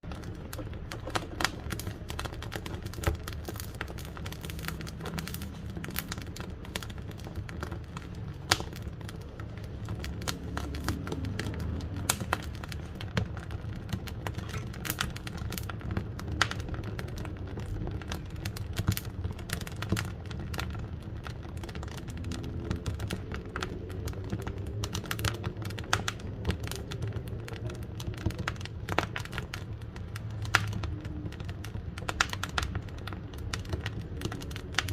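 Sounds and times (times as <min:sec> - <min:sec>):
low rumble of flames: 0:00.0 - 0:34.9
wood crackling and popping: 0:00.0 - 0:34.9.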